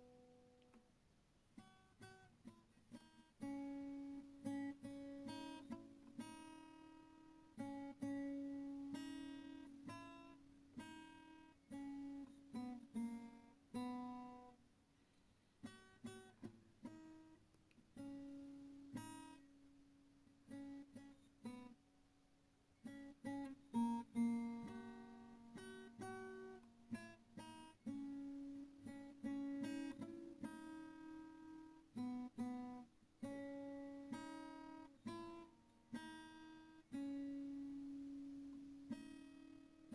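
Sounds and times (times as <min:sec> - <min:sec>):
acoustic guitar playing: 0:00.0 - 0:00.8, 0:01.5 - 0:14.6, 0:15.5 - 0:21.8, 0:22.8 - 0:39.9.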